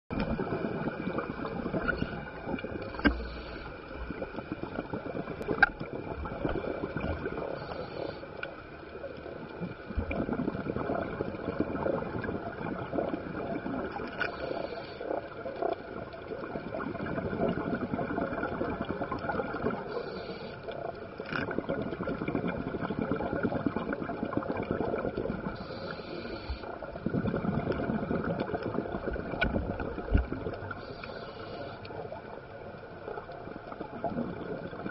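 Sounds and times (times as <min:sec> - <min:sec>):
regulator bubbles gurgling: 0:00.1 - 0:34.9
steady underwater hiss: 0:00.2 - 0:34.9.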